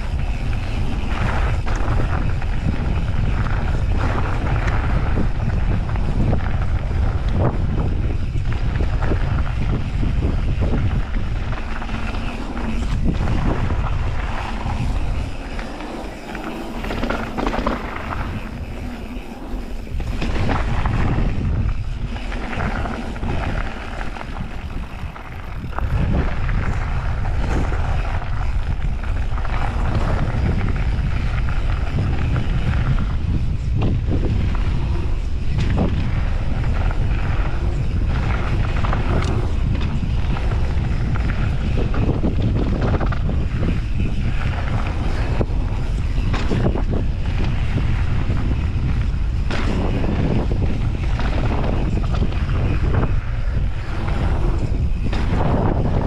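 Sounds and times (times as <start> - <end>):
bike rattling over bumps: 0.0 - 56.0
tyres crunching over gravel: 0.0 - 56.0
wind buffeting microphone: 0.0 - 56.0.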